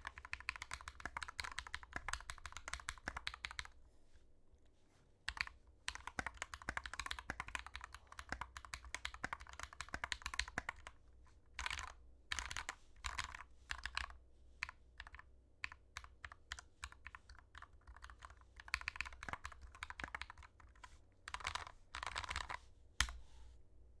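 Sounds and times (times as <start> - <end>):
mechanical keyboard typing: 0.0 - 3.7, 5.3 - 11.0, 11.6 - 23.1.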